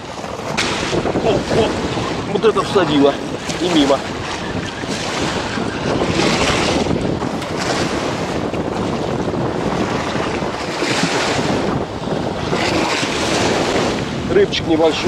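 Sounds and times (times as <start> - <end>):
waves splashing on concrete bank: 0.0 - 15.0
wind buffeting microphone: 0.0 - 15.0.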